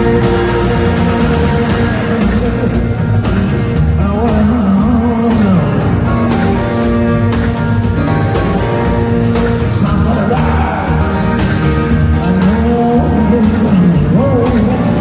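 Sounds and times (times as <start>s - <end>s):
gliding lead guitar line: 0.0s - 15.0s
rock band playing live: 0.0s - 15.0s.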